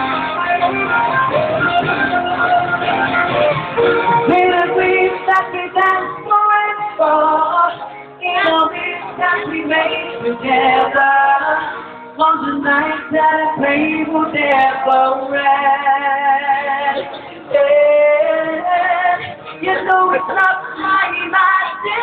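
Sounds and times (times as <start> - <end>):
backing music: 0.0 - 22.0
person singing into microphone: 4.0 - 22.0.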